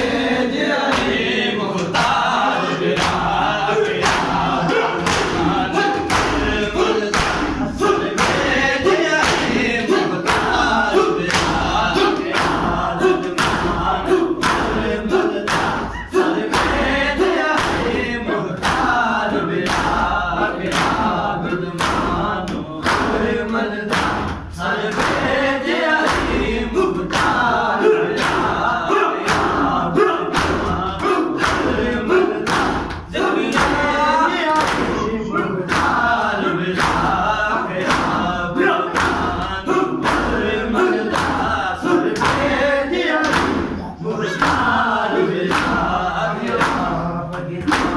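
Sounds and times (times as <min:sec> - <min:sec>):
men chanting together: 0:00.0 - 0:47.9.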